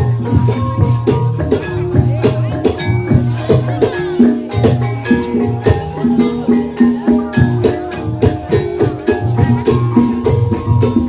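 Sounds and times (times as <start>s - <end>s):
gamelan music: 0.0s - 11.0s.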